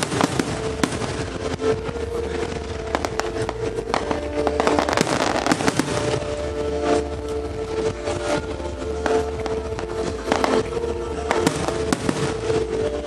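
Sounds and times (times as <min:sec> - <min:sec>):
fireworks bursting and crackling: 0:00.0 - 0:13.0
music playing: 0:00.0 - 0:13.0.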